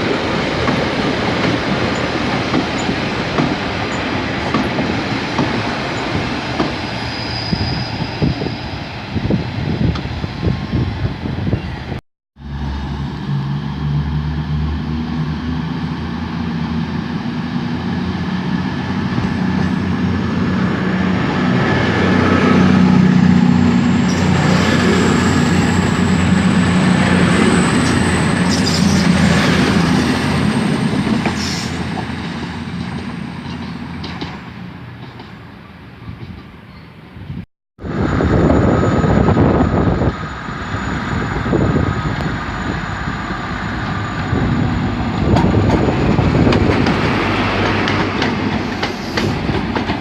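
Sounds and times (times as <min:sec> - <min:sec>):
diesel train passing: 0:00.0 - 0:50.0.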